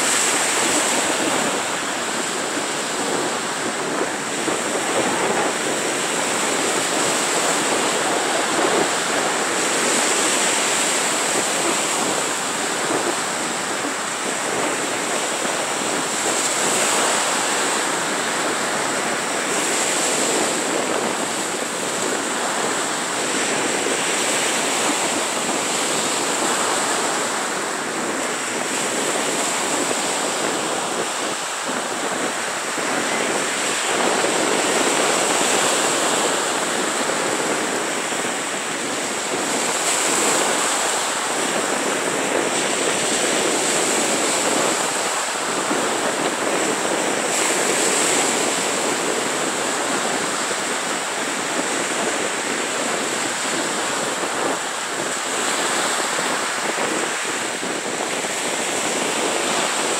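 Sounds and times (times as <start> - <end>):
small waves breaking on sand: 0.0 - 59.9.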